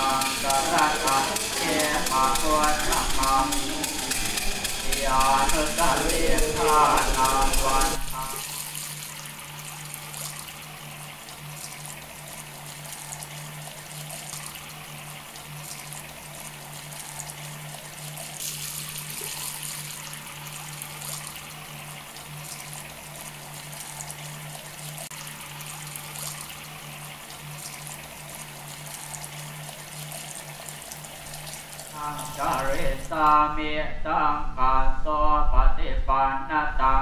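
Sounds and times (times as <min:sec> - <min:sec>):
fountain jets splashing into pool: 0:00.0 - 0:33.4
steady low hum: 0:00.0 - 0:37.0.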